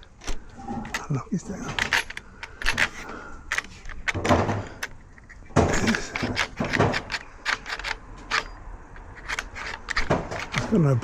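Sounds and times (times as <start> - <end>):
door lock clicks and clunks: 0.0 - 10.8.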